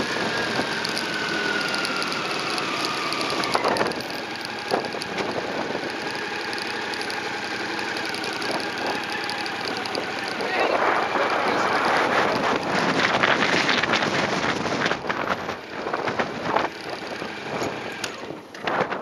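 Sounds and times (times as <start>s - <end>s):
motorcycle engine at low revs: 0.0s - 19.0s.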